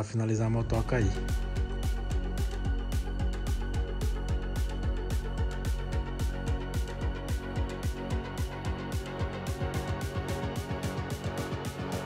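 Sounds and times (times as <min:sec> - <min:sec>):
electronic music with kick drum: 0:00.4 - 0:12.0.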